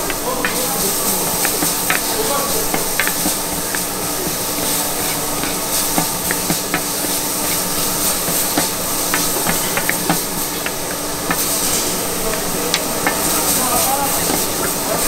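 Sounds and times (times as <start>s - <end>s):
food sizzling on a griddle: 0.1s - 15.0s.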